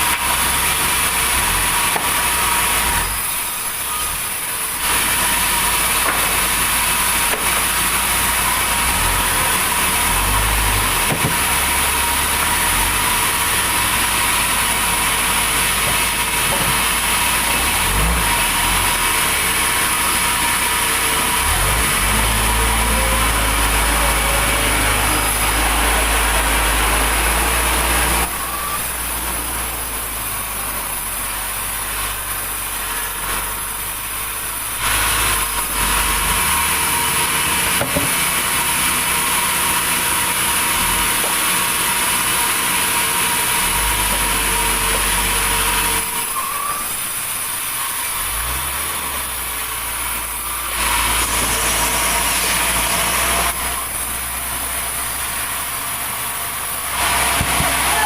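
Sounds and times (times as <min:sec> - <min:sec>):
sawmill saw whining through wood: 0:00.0 - 0:58.0.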